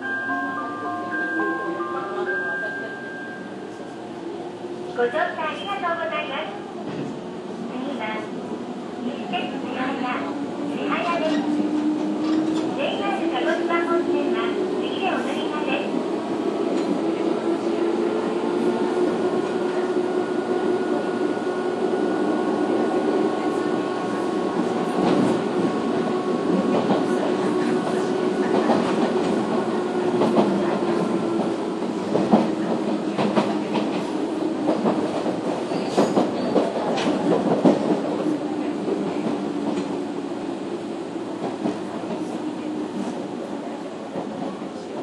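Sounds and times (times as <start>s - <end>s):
train wheels rumbling: 3.4s - 45.0s.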